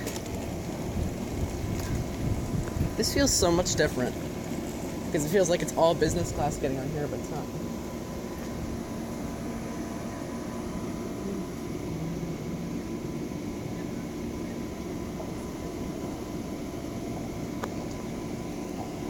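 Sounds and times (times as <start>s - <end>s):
faint steady hum: 0.0s - 19.0s
train idling low drone: 0.0s - 19.0s.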